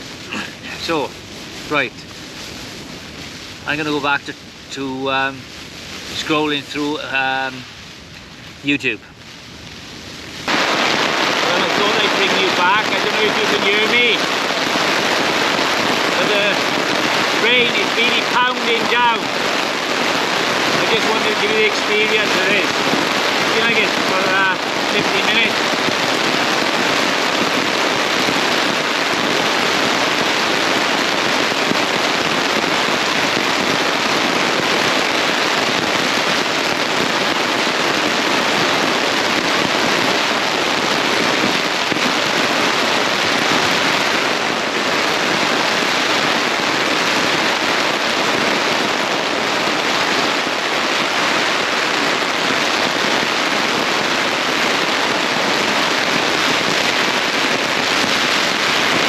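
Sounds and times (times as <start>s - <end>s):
heavy rain on tent fabric: 0.0s - 59.0s.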